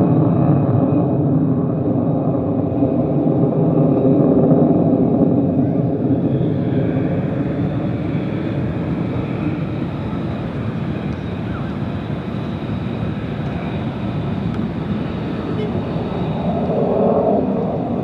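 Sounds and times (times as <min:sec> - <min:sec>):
jet engine roaring overhead: 0:00.0 - 0:18.0.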